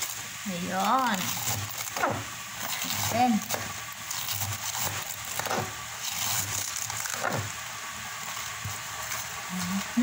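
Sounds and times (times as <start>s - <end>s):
knife slicing cabbage: 0.0s - 10.0s.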